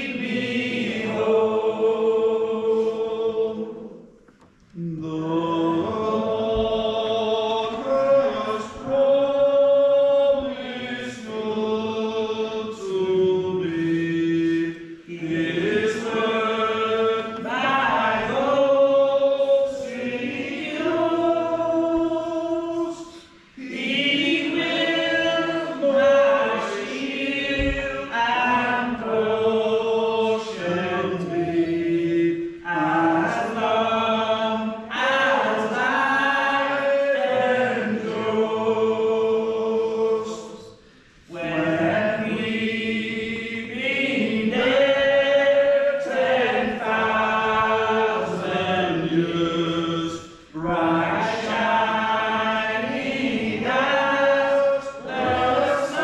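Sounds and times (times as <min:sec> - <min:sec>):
hymn being sung: 0:00.0 - 0:56.0.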